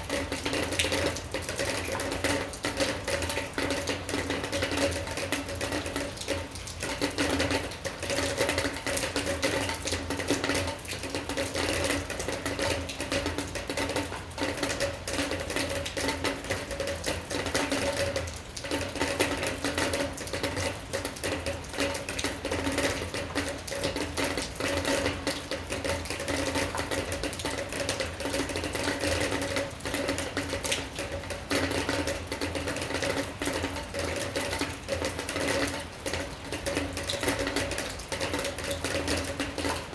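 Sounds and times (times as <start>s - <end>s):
rain pattering on hard surface: 0.0s - 39.9s.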